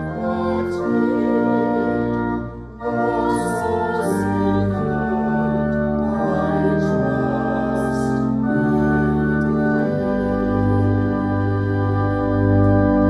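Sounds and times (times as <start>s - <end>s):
group singing a hymn: 0.0s - 12.4s
organ chords: 0.0s - 13.0s.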